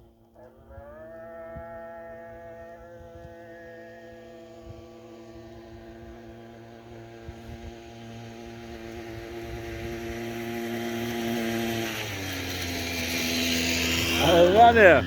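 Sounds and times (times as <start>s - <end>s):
motor engine drone: 0.0s - 15.0s.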